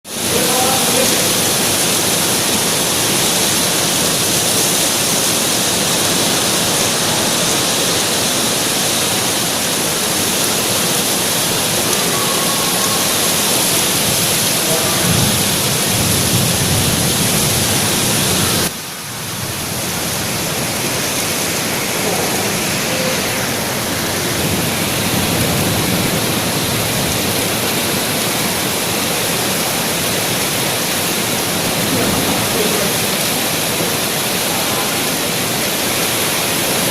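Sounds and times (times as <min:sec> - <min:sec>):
heavy rain in strong wind: 0:00.0 - 0:36.9.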